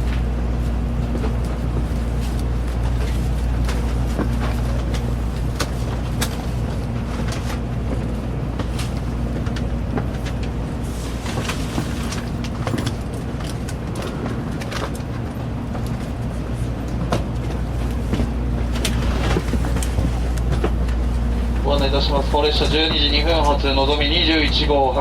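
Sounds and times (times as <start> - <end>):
train carriage rumble and hum: 0.0 - 25.0.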